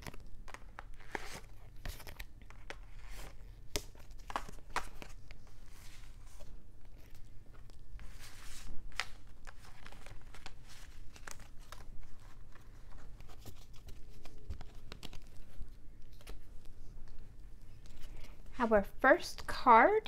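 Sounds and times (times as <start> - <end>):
cards being shuffled: 0.0 - 18.5.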